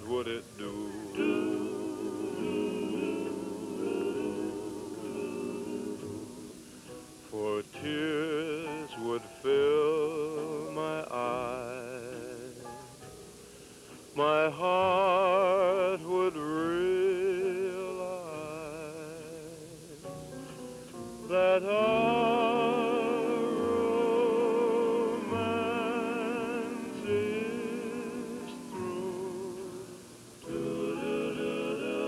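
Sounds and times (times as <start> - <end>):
solo singer with wide vibrato: 0.0 - 12.7, 13.9 - 20.0, 21.0 - 32.0.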